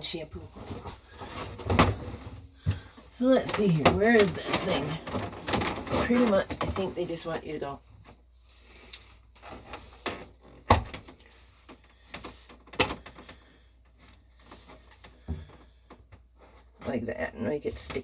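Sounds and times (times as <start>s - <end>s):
drain fitting clicks and rustles: 0.4s - 7.7s, 8.9s - 17.0s.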